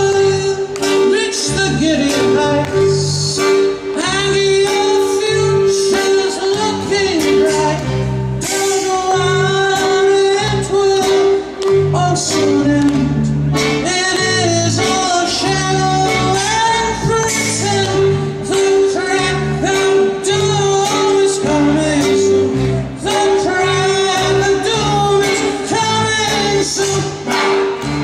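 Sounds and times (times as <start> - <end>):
accordion melody: 0.0 - 28.0
plucked double bass: 0.0 - 28.0.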